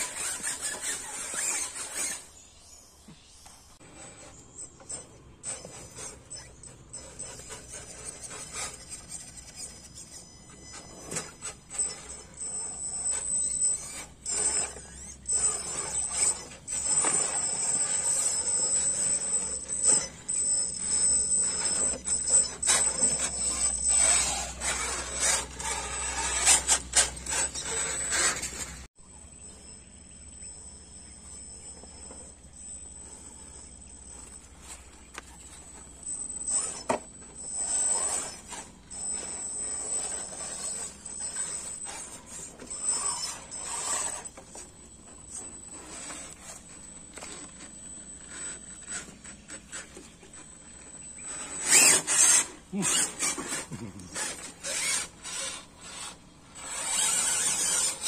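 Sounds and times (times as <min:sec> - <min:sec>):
rc truck motor whine: 0:00.0 - 0:58.0.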